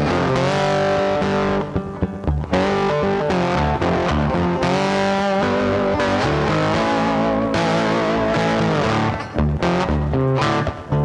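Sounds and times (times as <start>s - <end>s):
distorted electric guitar music: 0.0s - 11.0s.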